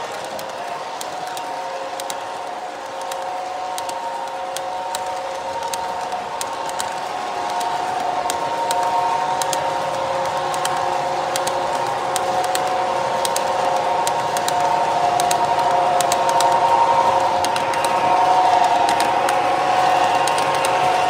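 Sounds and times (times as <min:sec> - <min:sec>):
model train whine: 0:00.0 - 0:21.0
wheels clicking over rail joints: 0:00.0 - 0:21.0.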